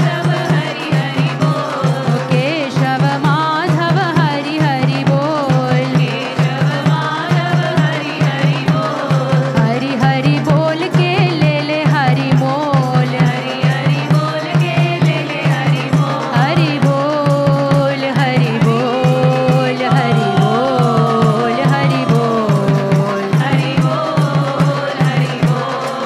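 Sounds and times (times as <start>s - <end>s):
fast hand drum rhythm: 0.0s - 26.0s
voices singing a chant: 0.0s - 26.0s.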